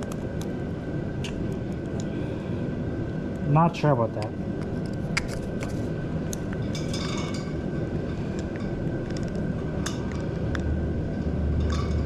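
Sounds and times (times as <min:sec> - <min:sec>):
faint constant whine: 0:00.0 - 0:12.0
low background rumble: 0:00.0 - 0:12.0.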